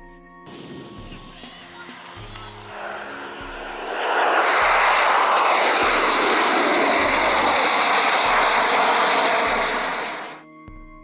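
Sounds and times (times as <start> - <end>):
jet fighter flying past: 0.5 - 10.4
whine falling in pitch: 0.5 - 10.4.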